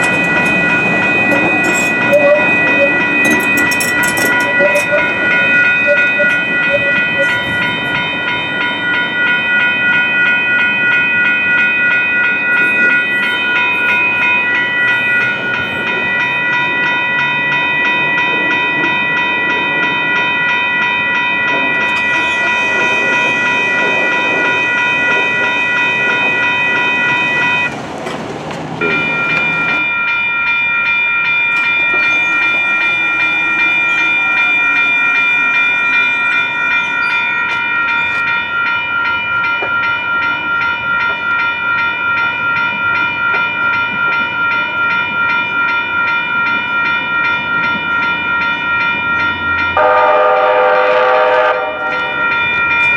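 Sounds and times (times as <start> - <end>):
crossing warning bells ringing: 0.0 - 52.9
train rumble and wheel clatter: 0.0 - 52.9.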